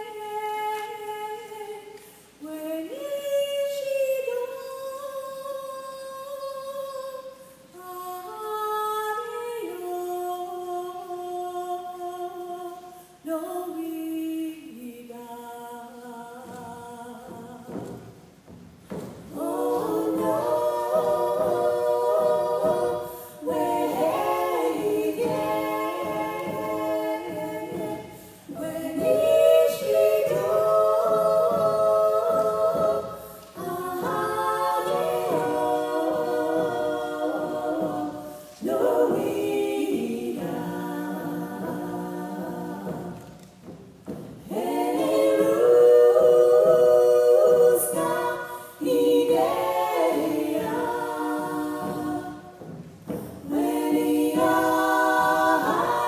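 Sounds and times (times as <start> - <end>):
women singing a cappella: 0.0 - 56.0.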